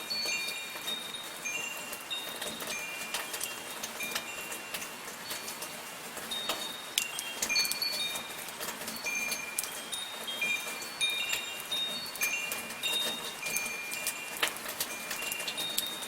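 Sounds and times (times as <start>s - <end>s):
soft rain hiss: 0.0s - 16.0s
water drips: 0.0s - 16.0s
wind chimes ringing: 0.0s - 16.0s.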